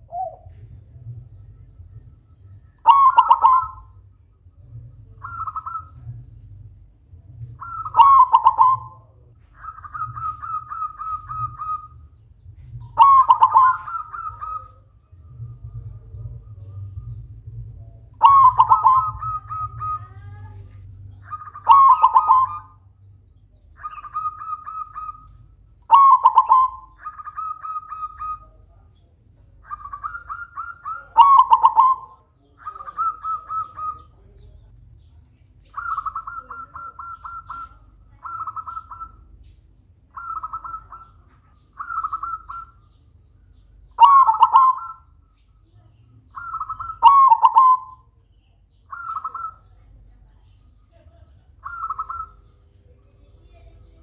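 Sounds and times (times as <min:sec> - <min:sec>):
dove trilling coos: 0:00.0 - 0:06.4, 0:07.4 - 0:23.0, 0:23.7 - 0:28.8, 0:29.6 - 0:34.6, 0:35.6 - 0:39.5, 0:40.1 - 0:45.4, 0:46.2 - 0:48.2, 0:48.8 - 0:54.0.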